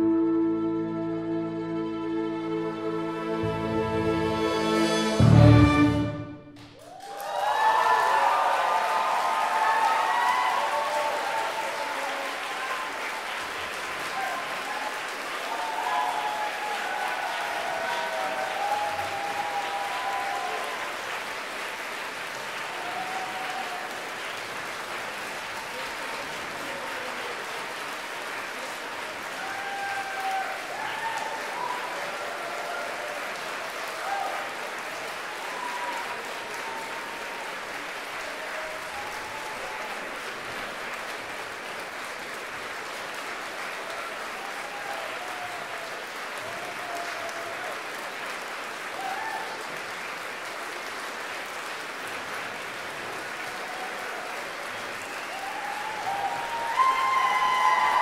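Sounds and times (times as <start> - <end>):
audience applauding: 1.4 - 58.0.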